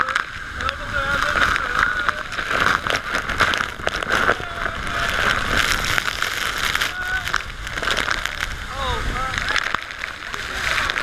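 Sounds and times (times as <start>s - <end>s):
droplets pelting the microphone: 0.0s - 11.0s
rush of falling water: 0.0s - 11.0s.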